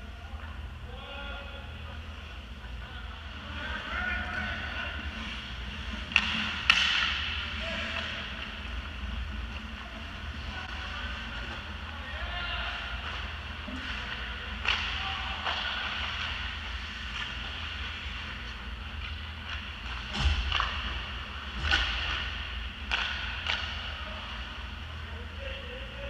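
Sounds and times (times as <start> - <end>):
low rink rumble: 0.0 - 26.0
hockey sticks and puck clacking: 3.7 - 24.6.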